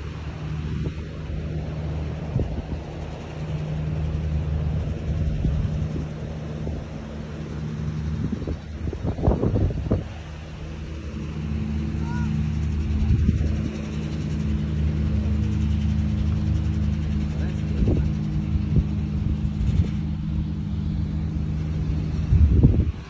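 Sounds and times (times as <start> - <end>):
low engine hum: 0.0 - 23.0
wind buffeting microphone: 0.0 - 23.0.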